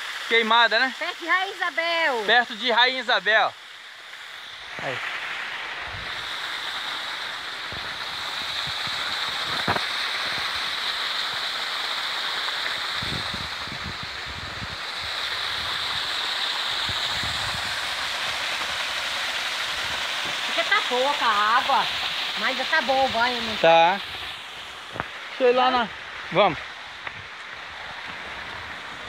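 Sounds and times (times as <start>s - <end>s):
waterfall splashing: 0.0s - 29.0s.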